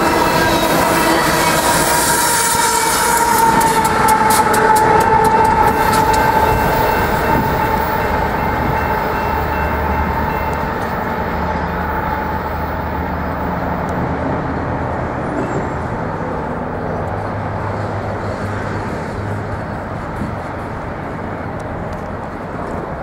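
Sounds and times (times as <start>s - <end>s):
diesel locomotive engine drone: 0.0s - 23.0s
wheels rumbling on rail: 0.0s - 23.0s.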